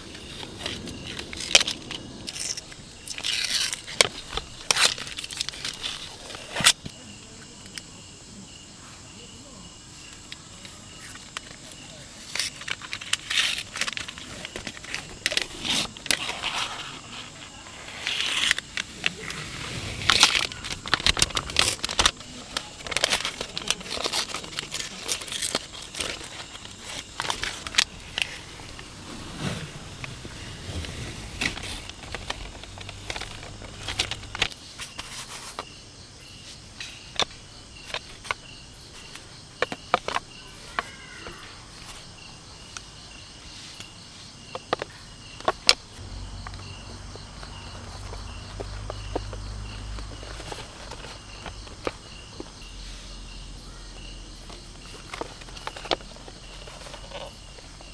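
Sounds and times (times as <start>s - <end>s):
crackling and crinkling: 0.0s - 8.1s, 9.7s - 57.9s.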